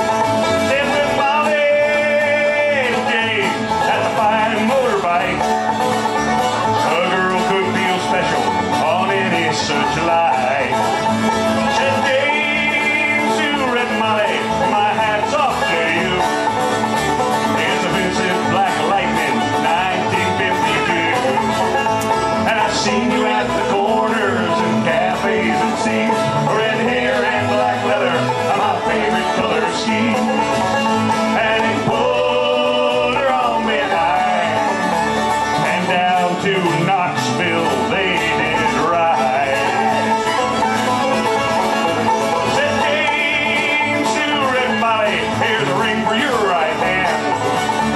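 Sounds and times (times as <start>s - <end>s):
acoustic band playing bluegrass: 0.0s - 47.9s.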